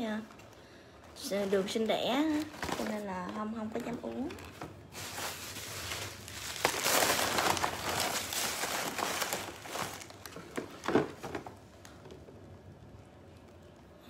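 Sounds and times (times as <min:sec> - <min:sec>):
crinkling and rustling: 0:00.0 - 0:12.5.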